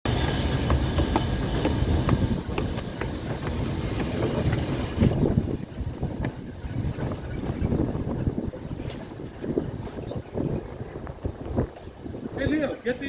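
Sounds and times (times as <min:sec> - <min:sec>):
train rumbling on track: 0:00.0 - 0:12.4
wind buffeting microphone: 0:00.0 - 0:13.0
wheels clicking on track: 0:00.1 - 0:12.8.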